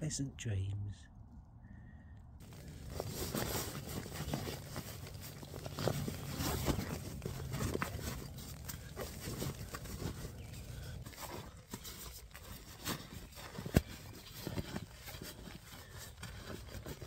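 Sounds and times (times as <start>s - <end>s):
fabric rustling and crinkling: 2.4s - 17.0s.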